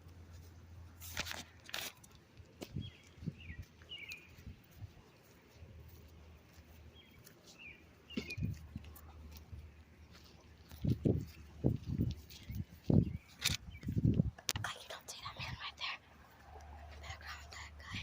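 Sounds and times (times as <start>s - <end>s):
footsteps on outdoor ground: 0.0s - 14.6s, 15.5s - 18.0s
birds chirping: 2.6s - 18.0s.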